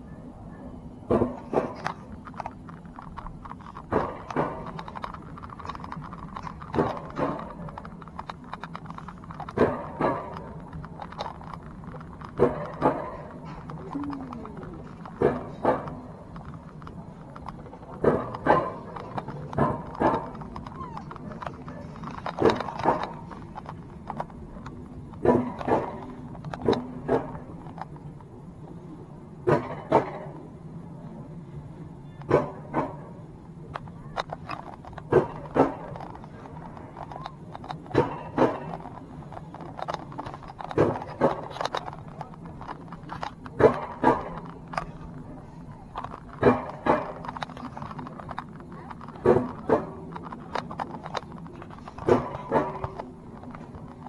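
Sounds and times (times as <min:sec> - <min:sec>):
low background rumble: 0:00.0 - 0:54.0
low steady hum: 0:00.0 - 0:54.0
coaster sled clacking on rail: 0:01.0 - 0:54.0.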